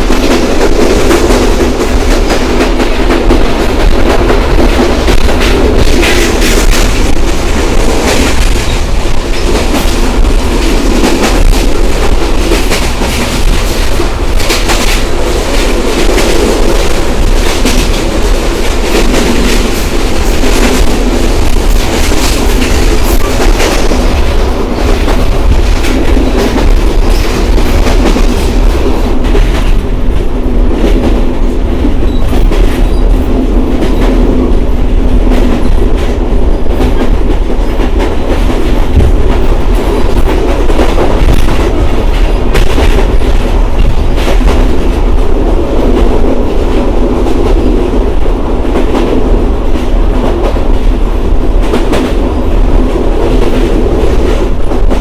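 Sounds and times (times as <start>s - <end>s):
clickety-clack of rail joints: 0.0s - 55.0s
train wheels rumbling on rails: 0.0s - 55.0s.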